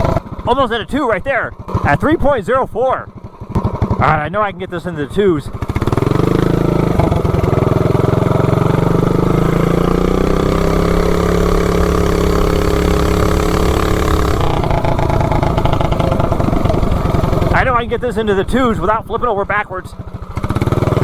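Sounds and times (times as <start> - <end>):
minibike engine revving: 0.0 - 4.4, 5.4 - 21.0.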